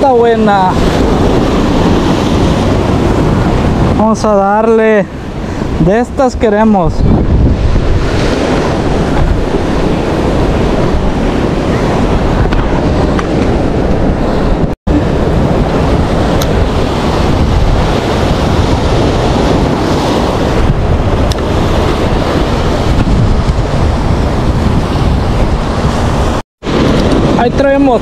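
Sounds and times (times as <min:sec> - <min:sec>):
surf washing on beach: 0:00.0 - 0:28.0
wind buffeting microphone: 0:00.0 - 0:28.0.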